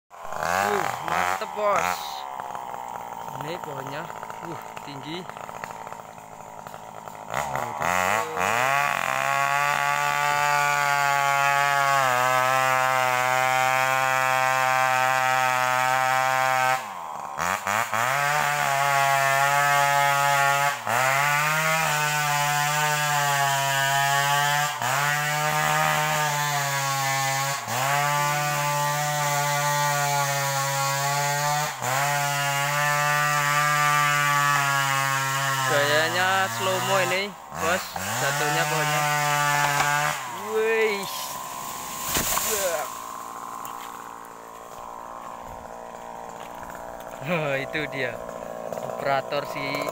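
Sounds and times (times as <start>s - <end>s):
chainsaw cutting at full throttle: 0.1s - 49.9s.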